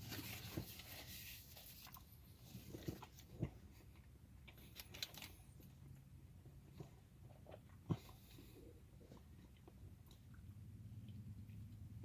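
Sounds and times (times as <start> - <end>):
person chewing food: 1.8 - 11.8.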